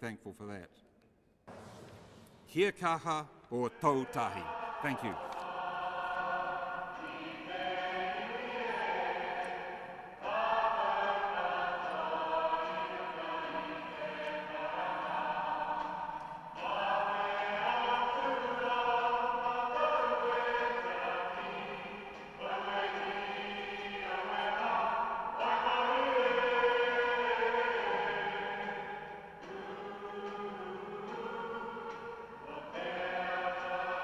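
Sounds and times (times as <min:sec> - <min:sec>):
group singing a hymn: 0:03.5 - 0:34.0.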